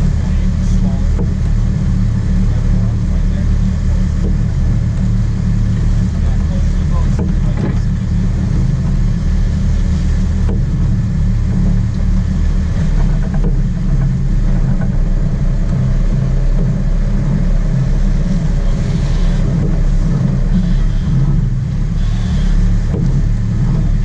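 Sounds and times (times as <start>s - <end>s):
boat engines rumbling: 0.0s - 24.0s.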